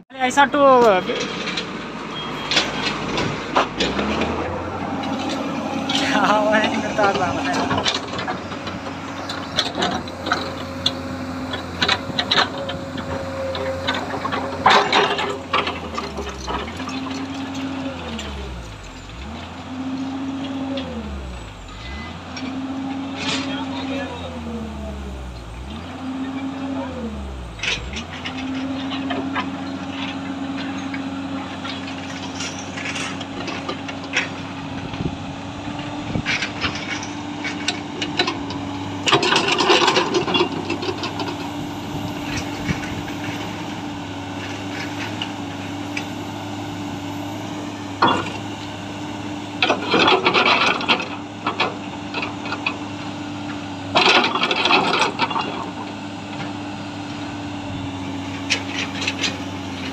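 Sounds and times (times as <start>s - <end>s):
excavator diesel engine running: 0.0s - 59.9s
hydraulics surging under load: 0.2s - 59.9s.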